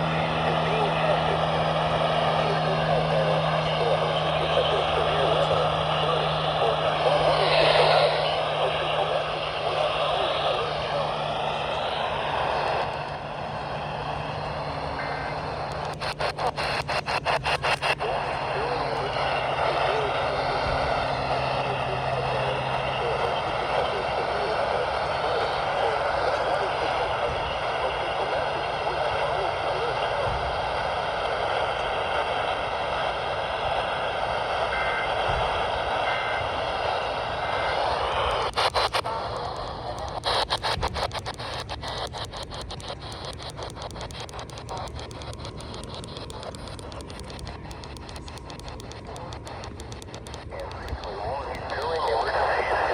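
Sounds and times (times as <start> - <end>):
radio static hissing: 0.0 - 52.9
steady low hum: 0.0 - 52.9.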